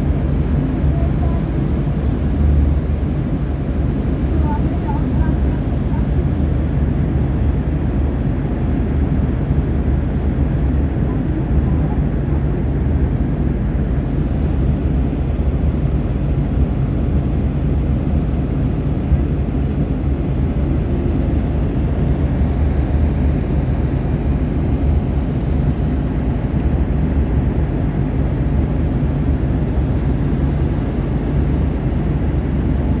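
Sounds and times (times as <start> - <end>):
airplane engines droning: 0.0 - 33.0.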